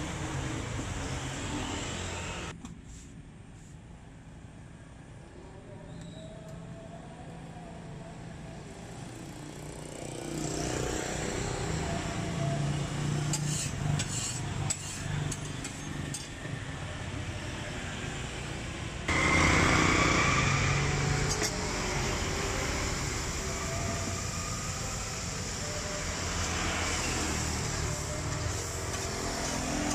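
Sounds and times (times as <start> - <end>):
traffic noise: 0.0 - 29.9.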